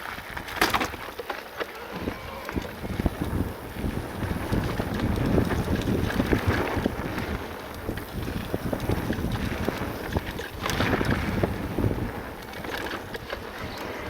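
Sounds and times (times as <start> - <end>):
wind buffeting microphone: 1.9 - 14.0
small clicks and rattles: 2.5 - 14.0.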